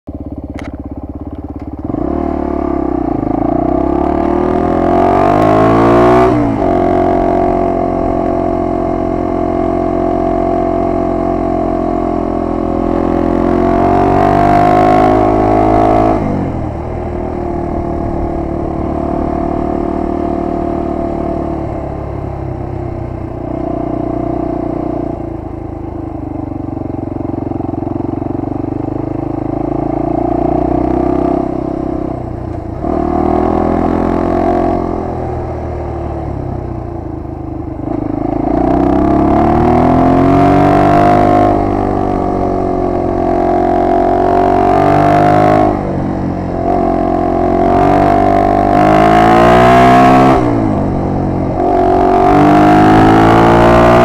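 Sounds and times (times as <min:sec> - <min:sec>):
motorcycle engine revving: 0:00.1 - 0:54.0.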